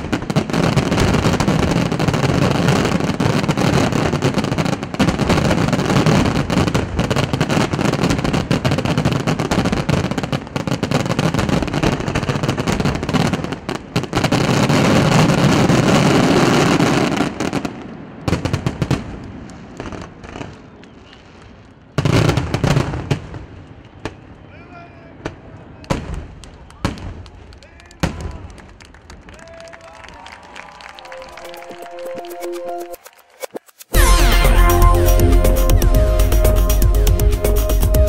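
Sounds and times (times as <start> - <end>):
fireworks bursting and crackling: 0.0 - 24.5, 25.1 - 29.4, 30.0 - 38.0.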